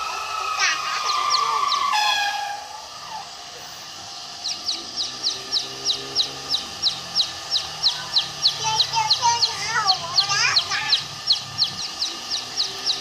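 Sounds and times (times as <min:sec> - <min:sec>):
hen calling: 0:00.0 - 0:03.4, 0:04.4 - 0:13.0
bird chirping: 0:00.9 - 0:02.5, 0:04.2 - 0:13.0.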